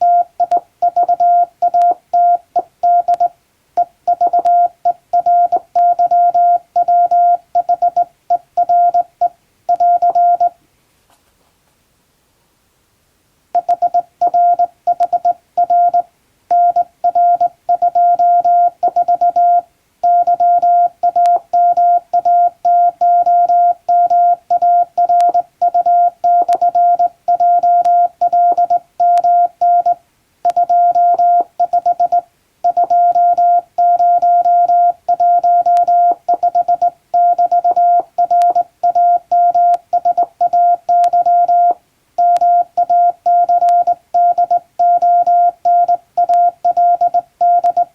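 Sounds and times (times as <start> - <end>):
morse code beeping tone: 0.0 - 9.1, 9.7 - 10.5, 13.6 - 47.9.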